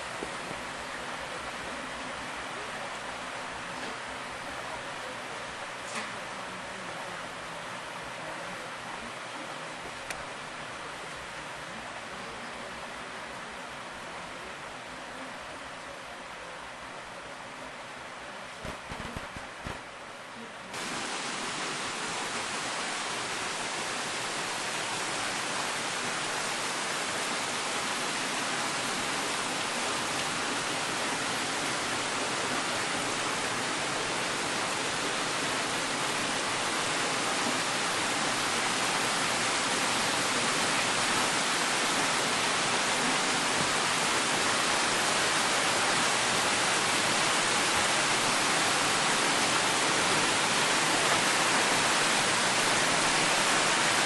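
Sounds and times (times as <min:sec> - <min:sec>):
heavy rain pouring: 0:00.0 - 0:15.7, 0:18.4 - 0:54.0.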